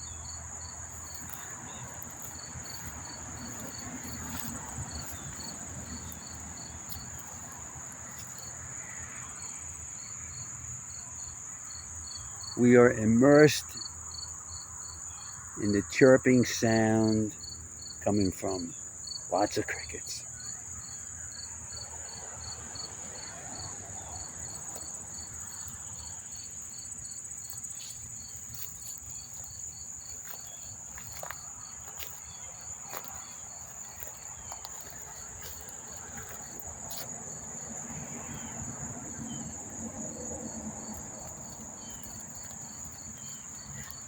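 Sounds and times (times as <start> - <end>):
crickets trilling: 0.0 - 44.0
slow regular cricket chirp: 0.0 - 44.0.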